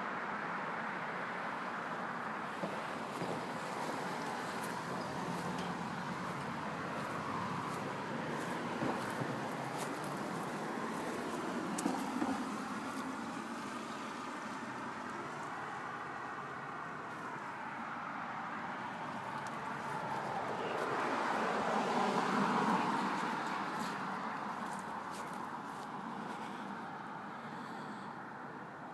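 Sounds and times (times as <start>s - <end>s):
road traffic noise: 0.0s - 28.9s
vehicle passing: 2.4s - 28.1s.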